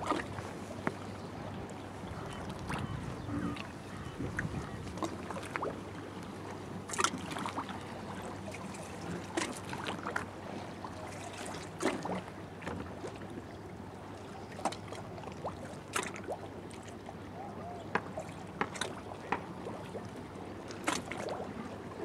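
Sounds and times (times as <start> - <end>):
water lapping against hull: 0.0 - 22.0.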